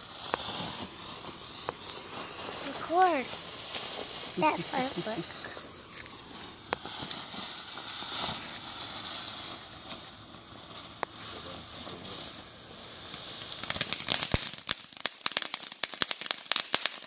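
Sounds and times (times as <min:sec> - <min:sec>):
firework crackling pops: 0:00.0 - 0:17.0
firework hissing: 0:00.0 - 0:17.0.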